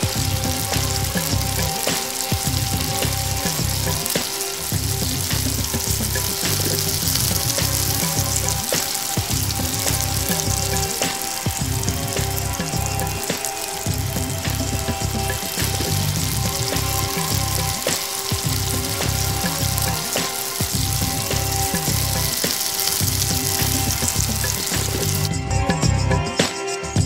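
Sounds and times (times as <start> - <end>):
food sizzling in hot oil: 0.0 - 25.4
music with pulsing bass: 0.0 - 27.0.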